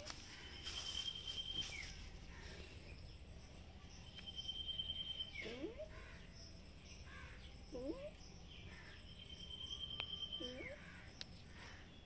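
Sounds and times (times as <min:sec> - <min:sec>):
insects and birds: 0:00.0 - 0:12.0.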